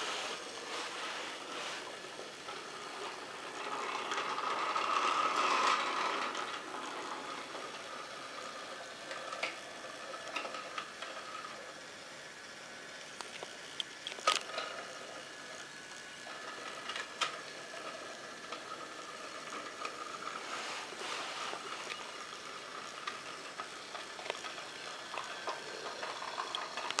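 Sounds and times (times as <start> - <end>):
toy train motor whine: 0.0 - 27.0.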